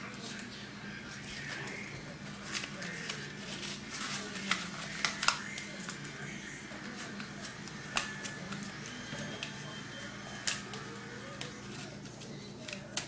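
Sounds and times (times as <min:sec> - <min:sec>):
paper and tape crinkling: 0:00.0 - 0:13.0.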